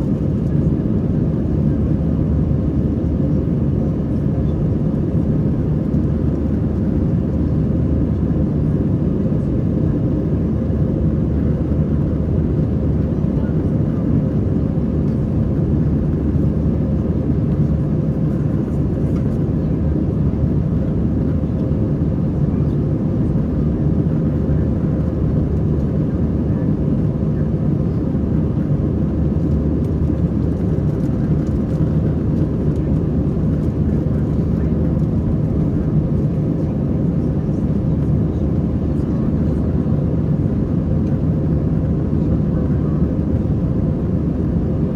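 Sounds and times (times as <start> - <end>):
airliner engine and airflow rumble: 0.0 - 44.9.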